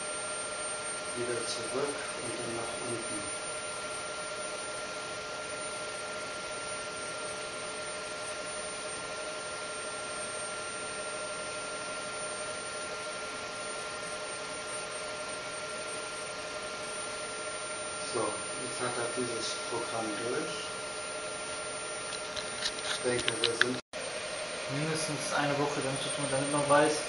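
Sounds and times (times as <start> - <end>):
robot arm electrical whine: 0.0 - 27.0.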